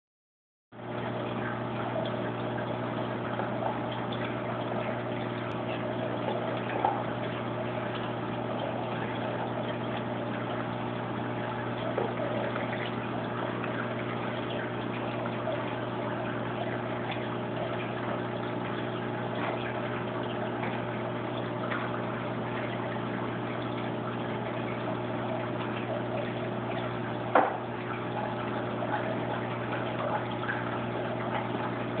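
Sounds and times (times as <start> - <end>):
aquarium pump humming: 0.8 - 32.0
water rushing and gurgling: 0.8 - 32.0.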